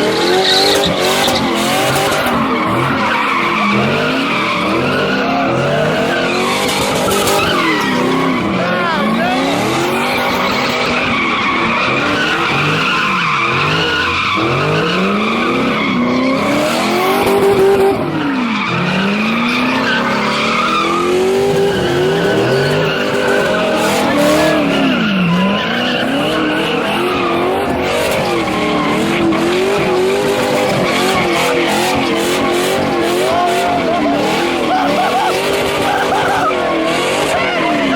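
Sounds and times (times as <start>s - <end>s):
car engines revving: 0.0s - 37.9s
tyres squealing: 0.0s - 37.9s.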